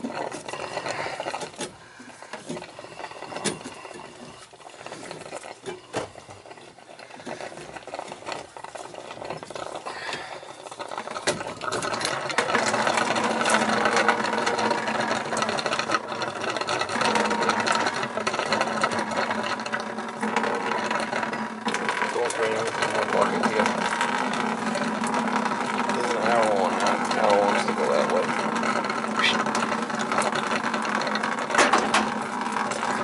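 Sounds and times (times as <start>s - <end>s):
water pouring into a bucket: 0.0s - 33.0s.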